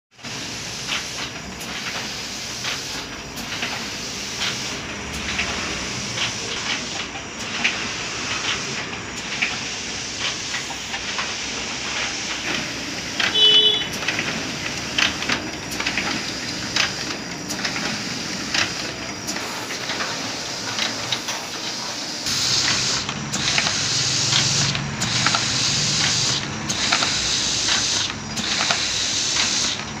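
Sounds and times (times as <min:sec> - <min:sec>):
printing press running: 0:00.2 - 0:30.0.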